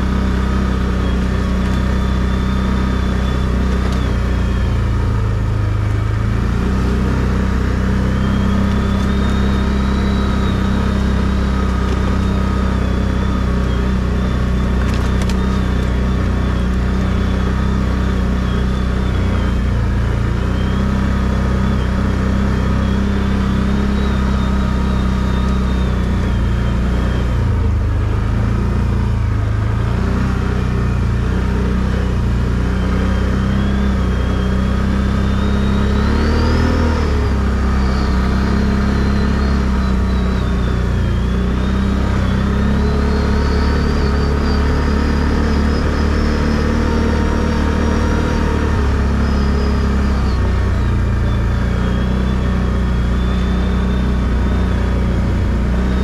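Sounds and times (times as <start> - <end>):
atv engine running: 0.0 - 56.0
high whine: 0.0 - 56.0.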